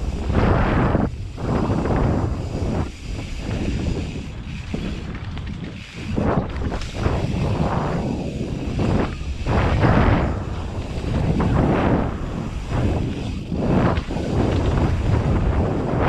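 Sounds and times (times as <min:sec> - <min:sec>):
bike tyres rolling over dirt: 0:00.0 - 0:16.0
wind on microphone: 0:00.0 - 0:16.0.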